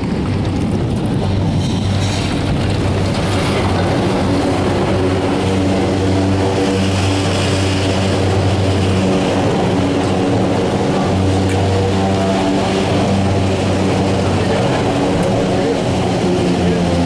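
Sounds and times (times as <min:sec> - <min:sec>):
chairlift machinery humming: 0:00.0 - 0:17.0.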